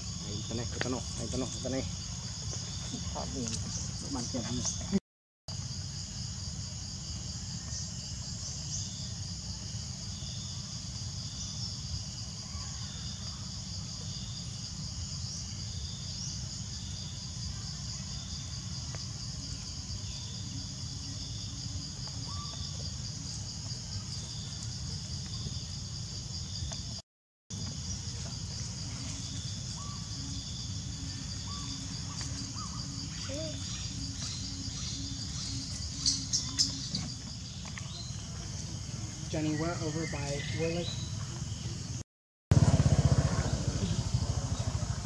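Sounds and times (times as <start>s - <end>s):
high-pitched insect chorus: 0.0s - 42.0s
pulsing insect call: 0.0s - 45.0s.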